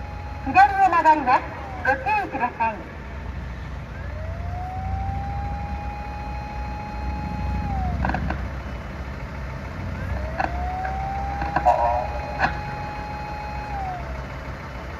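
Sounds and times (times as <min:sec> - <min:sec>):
fire engine running engine: 0:00.0 - 0:14.9
fire engine siren wailing: 0:00.0 - 0:14.9.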